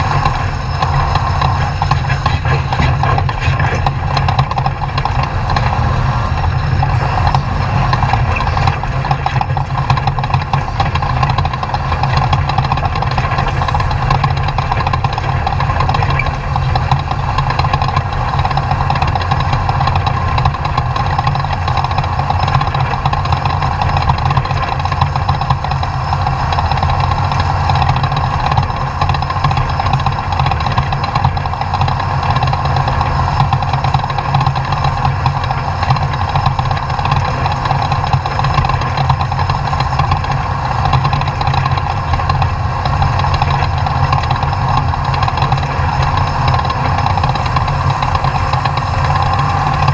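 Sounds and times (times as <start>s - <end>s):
race truck engine running: 0.0s - 49.9s.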